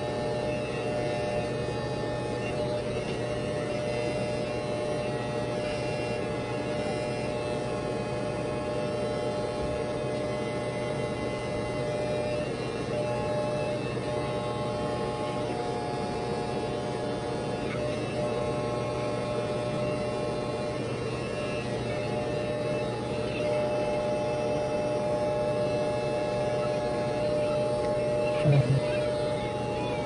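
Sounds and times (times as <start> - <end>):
electric hair clippers buzzing: 0.0 - 30.0.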